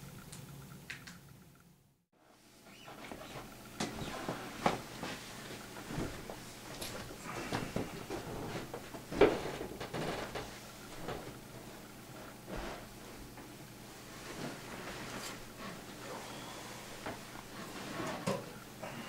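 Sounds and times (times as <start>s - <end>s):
footsteps in a room: 2.6s - 19.0s.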